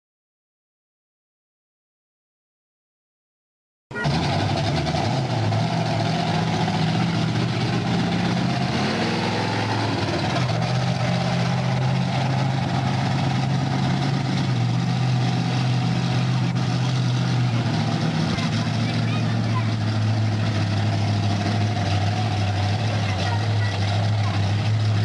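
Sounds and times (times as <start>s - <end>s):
truck engine running: 3.9s - 25.0s.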